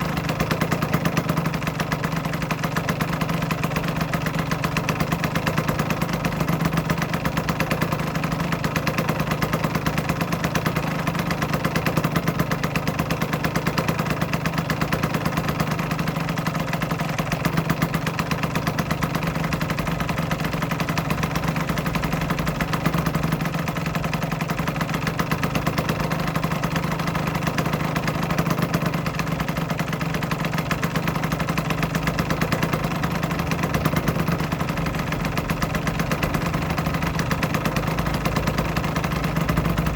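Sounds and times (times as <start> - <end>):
two-stroke motorcycle engine idling: 0.0 - 39.9.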